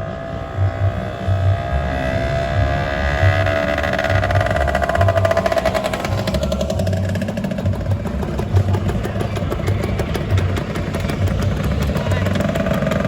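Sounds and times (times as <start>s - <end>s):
scooter engines idling: 0.0s - 13.0s.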